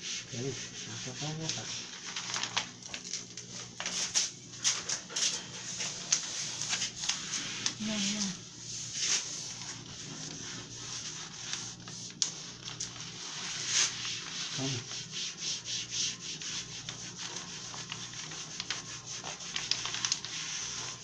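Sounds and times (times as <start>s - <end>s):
rubbing and scraping on contact paper: 0.0s - 21.0s.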